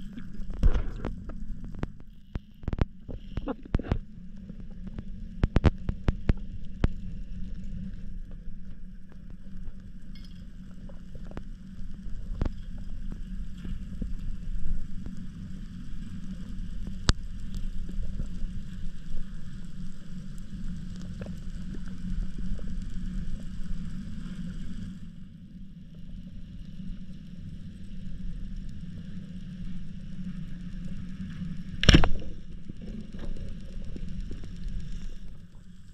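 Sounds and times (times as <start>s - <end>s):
sharp clicks and crackle: 0.0s - 25.3s, 26.0s - 35.9s
low underwater rumble: 0.0s - 35.9s.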